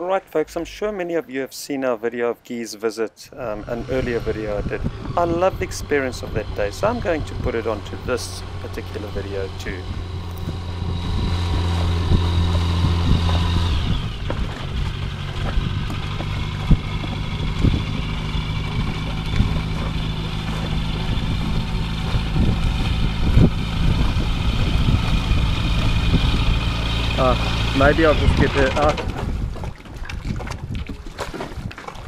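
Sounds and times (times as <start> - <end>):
engine running and idling: 3.4 - 29.6
engine knocks: 3.4 - 30.6.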